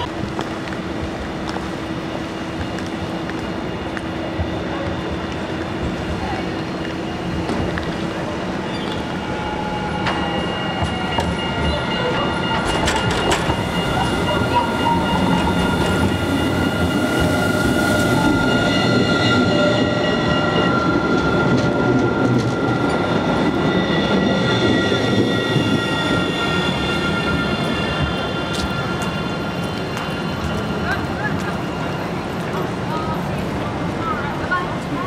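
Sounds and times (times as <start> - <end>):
tram rolling rumble: 0.0 - 35.0
tram wheels squealing: 0.0 - 35.0.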